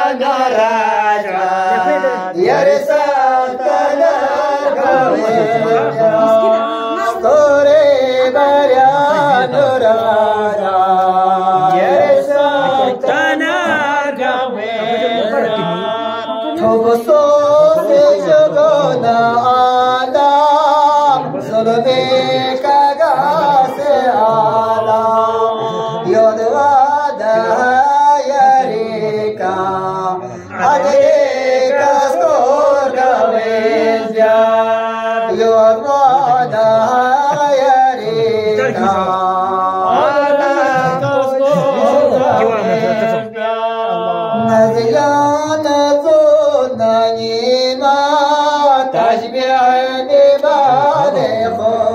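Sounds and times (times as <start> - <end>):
men chanting verses: 0.0 - 51.9.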